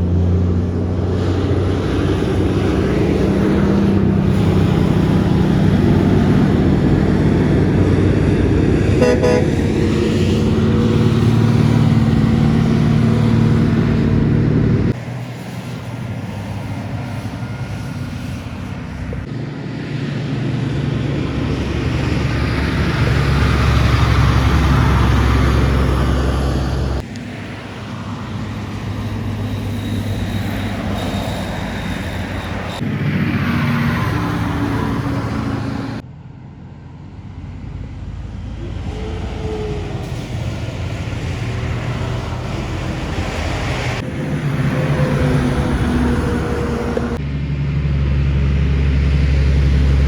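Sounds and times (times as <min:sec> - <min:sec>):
trucks passing on a highway: 0:00.0 - 0:50.0
tyre and road noise: 0:00.0 - 0:50.0.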